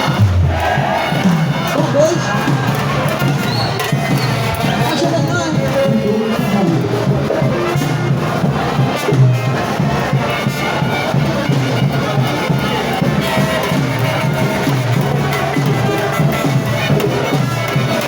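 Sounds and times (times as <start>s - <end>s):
crowd shouting and cheering: 0.0s - 18.0s
loud festive music: 0.0s - 18.0s.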